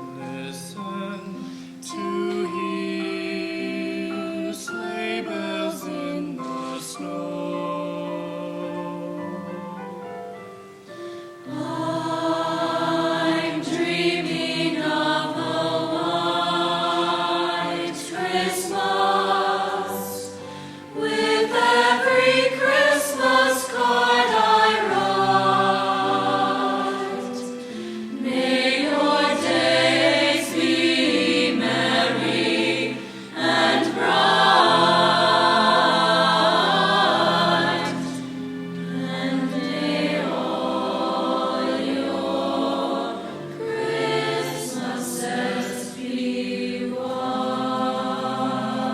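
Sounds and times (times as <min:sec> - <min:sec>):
choir singing in harmony: 0:00.0 - 0:10.1, 0:10.7 - 0:48.9.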